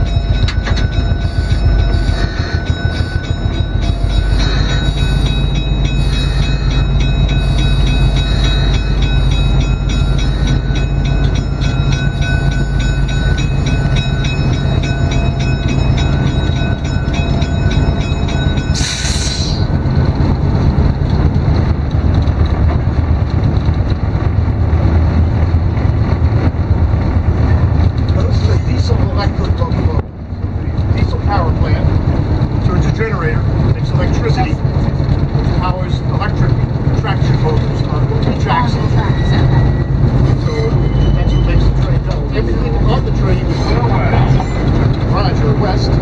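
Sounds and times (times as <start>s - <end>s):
diesel engines droning: 0.0s - 46.0s.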